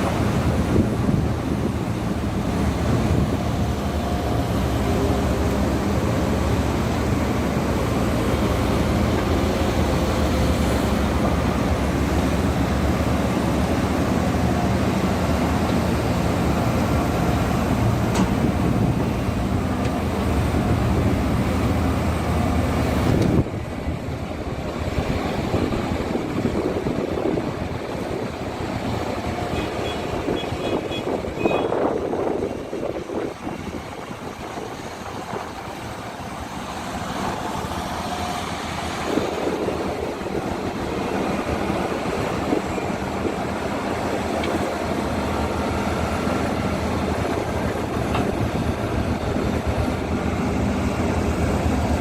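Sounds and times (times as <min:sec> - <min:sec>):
diesel engine humming: 0:00.0 - 0:52.0.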